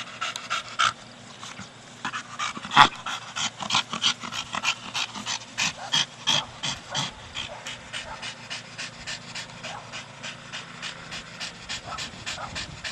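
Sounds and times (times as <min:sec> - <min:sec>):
dog panting rapidly: 0:00.0 - 0:12.9.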